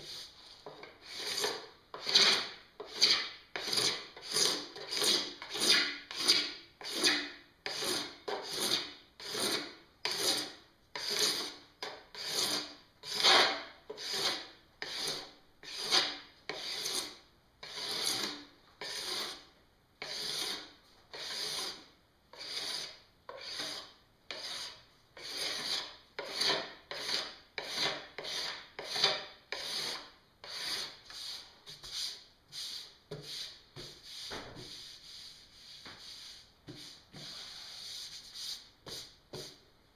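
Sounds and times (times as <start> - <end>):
metal scraper on snowboard base: 0.9 - 34.8.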